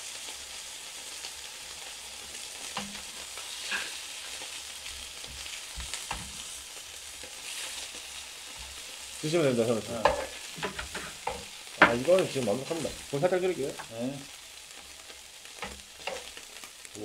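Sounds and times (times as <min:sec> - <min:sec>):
beef sizzling in frying pan: 0:00.0 - 0:17.0.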